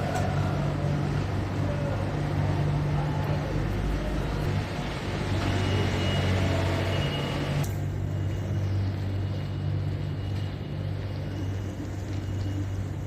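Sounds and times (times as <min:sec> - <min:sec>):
heavy vehicle engine humming: 0:00.0 - 0:13.0
hiss of passing traffic: 0:00.0 - 0:13.0.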